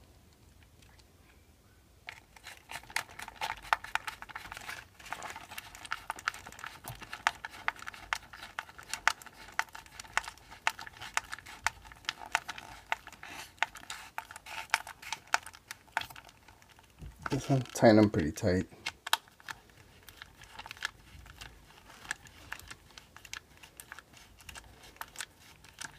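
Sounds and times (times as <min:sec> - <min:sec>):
screwdriver clicking and scratching: 0:02.1 - 0:25.9.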